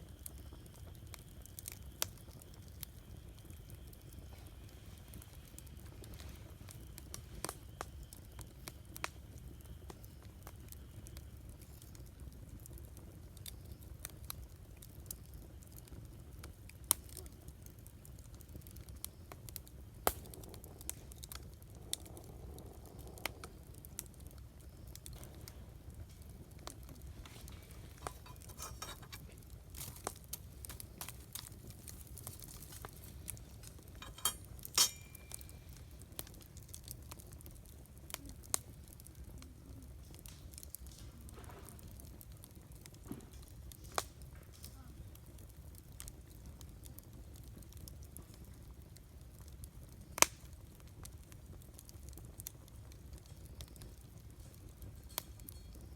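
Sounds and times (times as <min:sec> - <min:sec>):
campfire crackling: 0:00.0 - 0:55.9.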